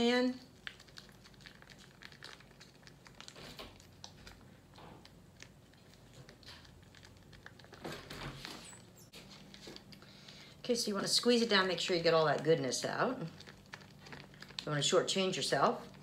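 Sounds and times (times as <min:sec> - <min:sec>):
plastic packet crinkling: 0:00.4 - 0:16.0.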